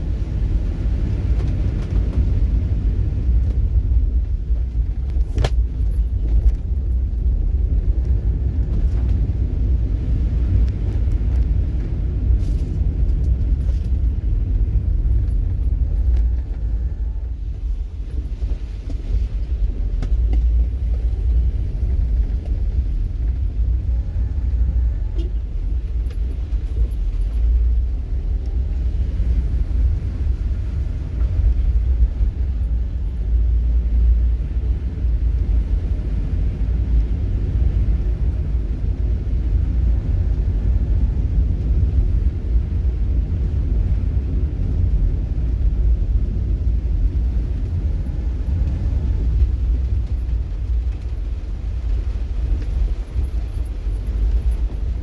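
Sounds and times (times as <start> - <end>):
moving vehicle rumble: 0.0 - 55.0.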